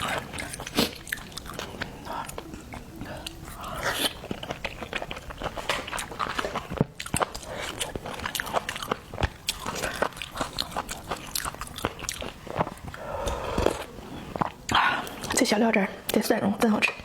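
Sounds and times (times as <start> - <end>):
person chewing wetly: 0.0 - 15.4.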